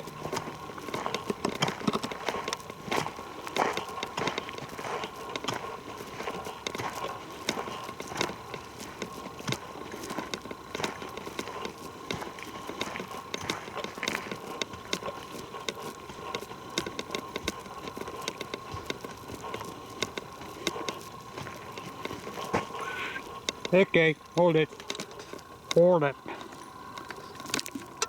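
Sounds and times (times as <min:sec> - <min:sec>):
footsteps on leaves and twigs: 0:00.0 - 0:28.0.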